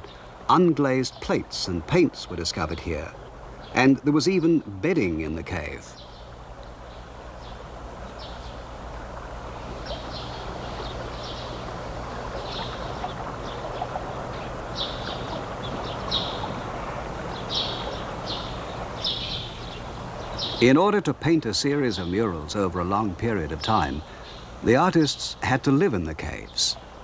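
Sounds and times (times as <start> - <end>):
low hum and hiss: 0.0 - 27.0
small birds chirping: 0.0 - 27.0.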